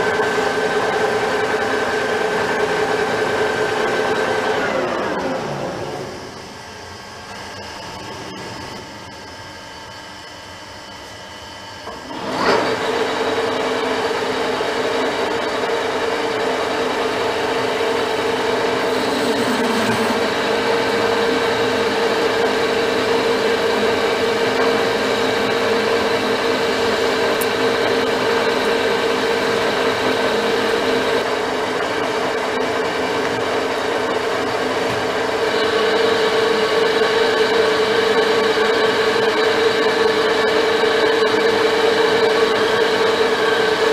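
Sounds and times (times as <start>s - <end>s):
metal lathe whining: 0.0s - 43.9s.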